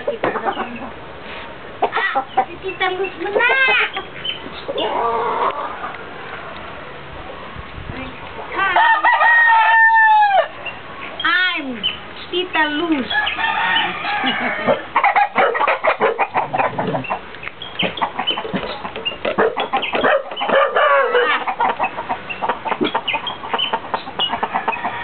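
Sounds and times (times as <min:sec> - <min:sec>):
rooster clucking and squawking: 0:00.0 - 0:01.0, 0:01.6 - 0:06.5, 0:08.4 - 0:10.8, 0:13.0 - 0:25.0.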